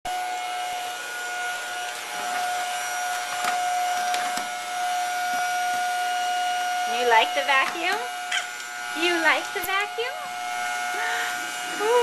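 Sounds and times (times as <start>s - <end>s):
vacuum cleaner running: 0.1s - 12.0s.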